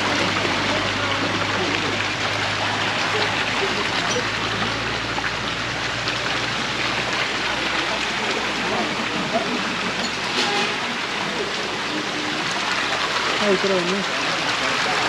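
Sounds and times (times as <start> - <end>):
water gushing into stone pool: 0.0 - 15.0.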